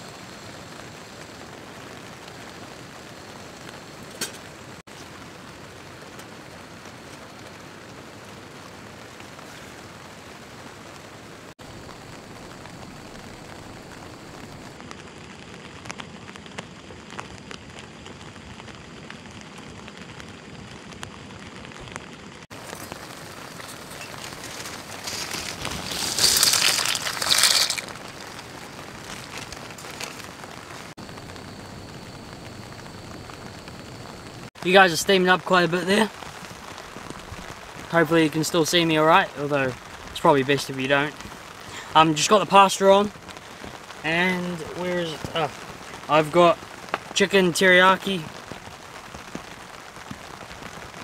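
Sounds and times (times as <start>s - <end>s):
rain on a tent: 0.0s - 51.0s.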